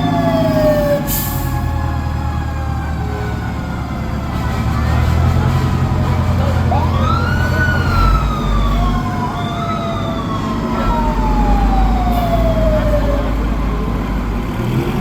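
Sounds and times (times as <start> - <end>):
fire truck siren wailing: 0.0 - 15.0
truck engine rumble: 0.0 - 15.0.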